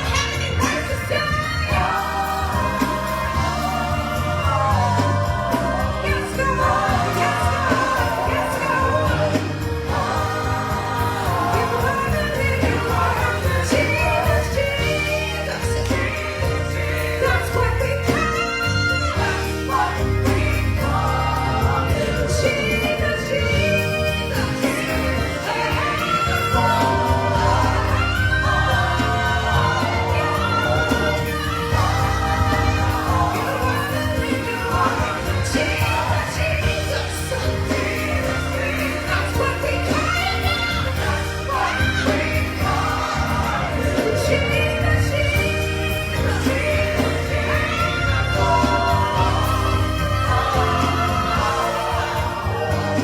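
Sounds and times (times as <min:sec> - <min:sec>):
bass: 0:00.0 - 0:53.0
choir singing gospel: 0:00.0 - 0:53.0
drums: 0:00.0 - 0:53.0.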